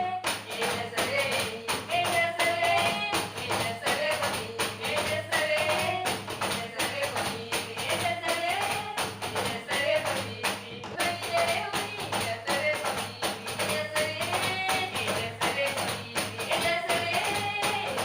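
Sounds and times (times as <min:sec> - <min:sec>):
fast hand percussion: 0:00.0 - 0:18.0.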